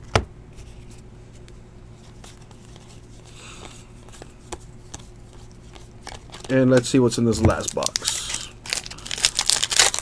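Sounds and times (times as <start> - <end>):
steady low hum: 0.0 - 10.0
cards sliding and shuffling: 0.1 - 8.5.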